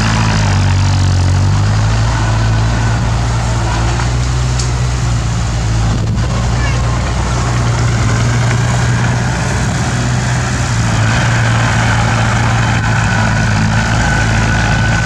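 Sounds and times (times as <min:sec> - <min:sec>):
construction machine engine running: 0:00.0 - 0:15.0.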